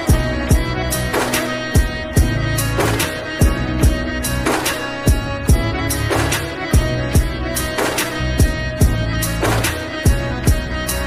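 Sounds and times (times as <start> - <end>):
slowed reverb-heavy pop music: 0.0 - 11.0.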